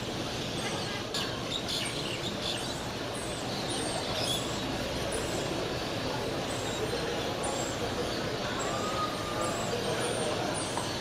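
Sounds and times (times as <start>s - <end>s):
flock of small birds twittering: 0.4s - 11.0s.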